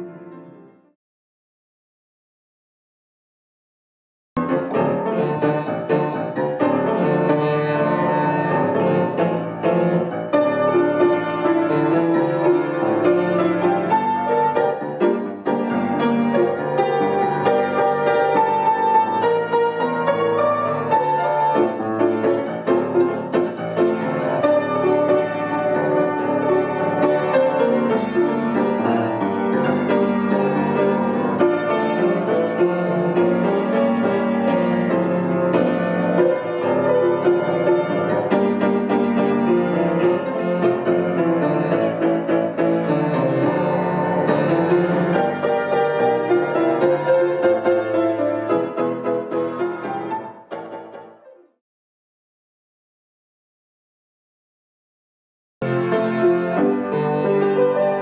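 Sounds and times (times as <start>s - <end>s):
piano music: 0.0s - 1.0s, 4.4s - 51.6s, 55.6s - 58.0s.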